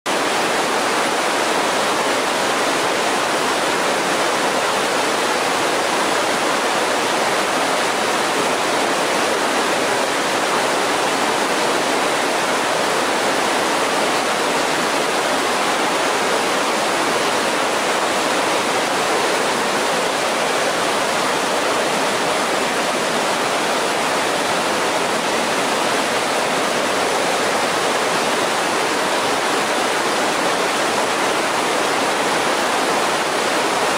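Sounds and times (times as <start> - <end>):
rapids rushing over boulders: 0.1 - 33.9.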